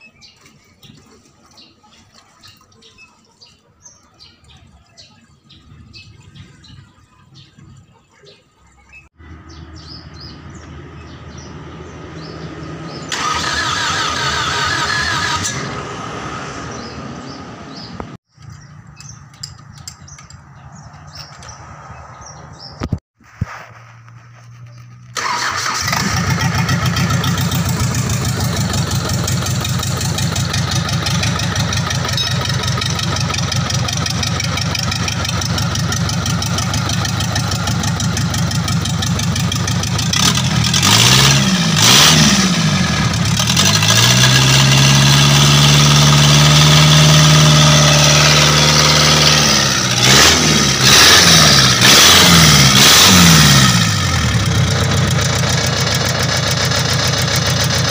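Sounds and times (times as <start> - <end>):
diesel truck engine idling and revving: 9.1 - 22.9, 24.0 - 57.9.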